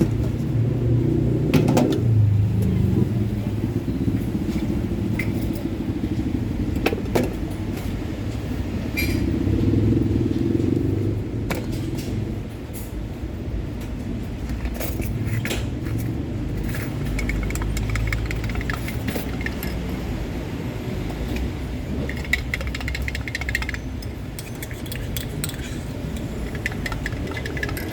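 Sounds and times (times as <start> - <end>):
vehicle engine humming: 0.0 - 27.9.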